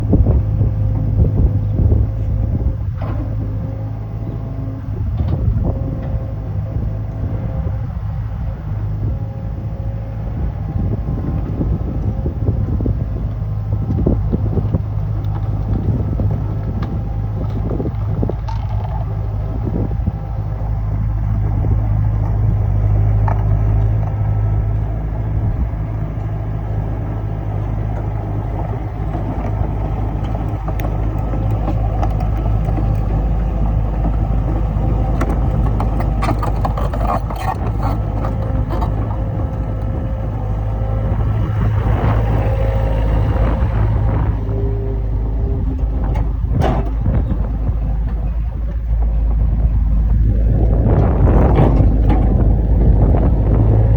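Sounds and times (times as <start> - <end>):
excavator diesel engine rumbling: 0.0 - 53.9.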